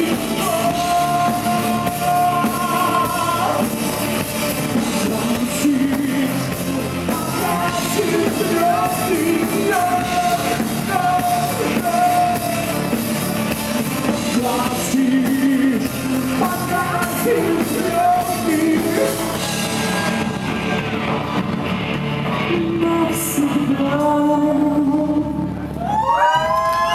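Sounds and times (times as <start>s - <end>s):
live rock band playing: 0.0s - 25.8s.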